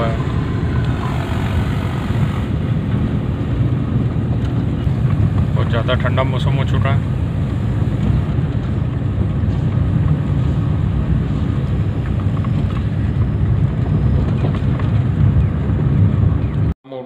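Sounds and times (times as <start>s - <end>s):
car engine and road noise: 0.0s - 16.8s.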